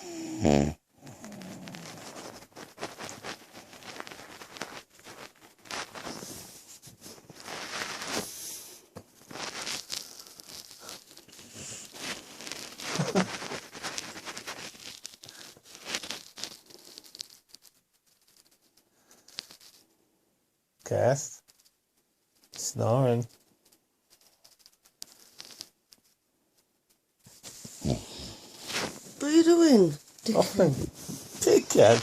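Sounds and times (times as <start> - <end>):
rustling and crinkling handling: 1.1 - 19.9, 21.4 - 32.0.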